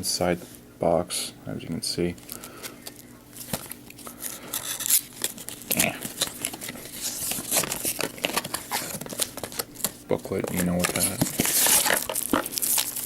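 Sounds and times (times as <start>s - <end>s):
bubble wrap crinkling: 2.3s - 13.0s.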